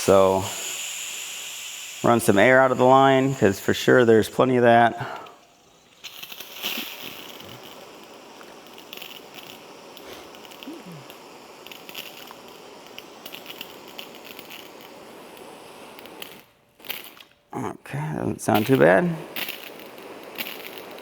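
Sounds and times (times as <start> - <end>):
pressure washer water hissing: 0.0 - 16.5, 18.4 - 21.0
air crackling in supply line: 0.0 - 21.0.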